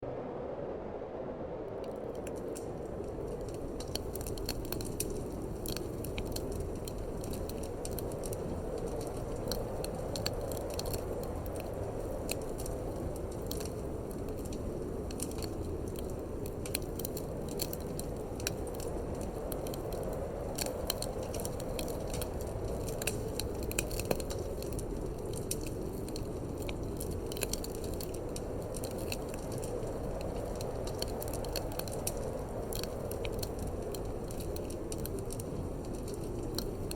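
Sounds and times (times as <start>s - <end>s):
low rush of wind: 0.0s - 36.9s
wood fire crackling: 1.7s - 36.9s.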